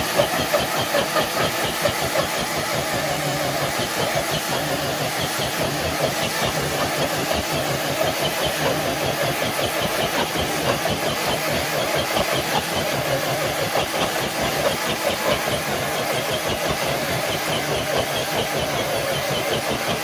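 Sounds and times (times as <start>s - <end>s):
motor running with fluttering: 0.0s - 20.0s.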